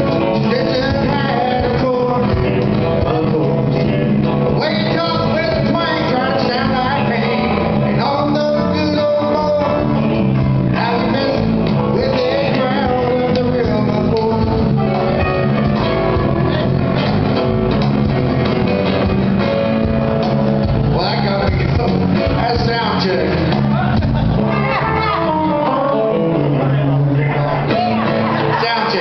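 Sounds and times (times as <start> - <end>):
man singing: 0.0 - 16.7, 20.9 - 27.0, 27.6 - 29.0
cajon beat: 0.0 - 26.8, 27.5 - 29.0
electric bass: 0.0 - 29.0
strummed acoustic guitar: 0.0 - 29.0.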